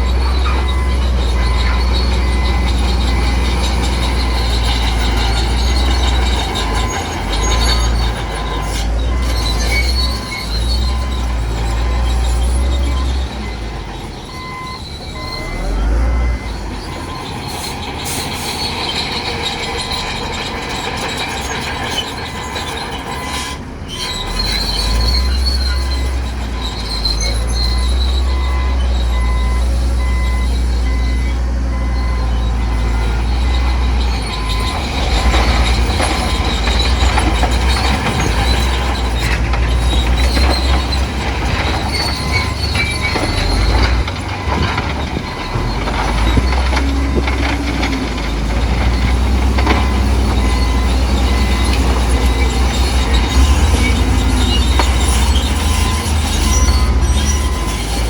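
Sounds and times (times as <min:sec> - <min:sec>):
reversing alarm beeping: 0:00.0 - 0:20.1, 0:22.3 - 0:58.0
bulldozer diesel engine rumbling: 0:00.0 - 0:58.0
steel tracks squealing and clattering: 0:00.0 - 0:58.0.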